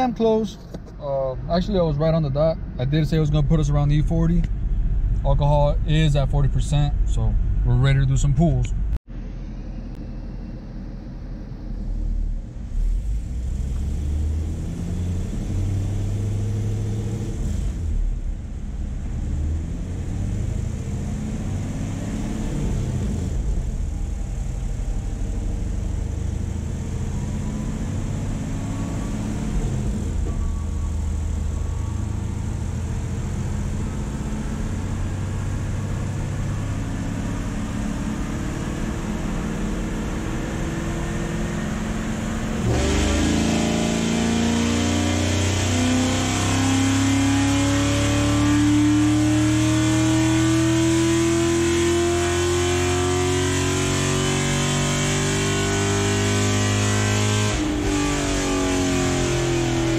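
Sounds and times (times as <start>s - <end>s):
car engine revving: 11.6s - 59.9s.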